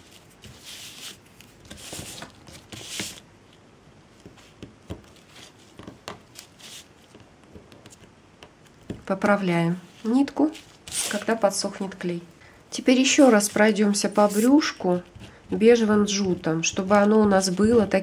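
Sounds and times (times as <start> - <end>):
twine rustling: 0.0 - 18.0.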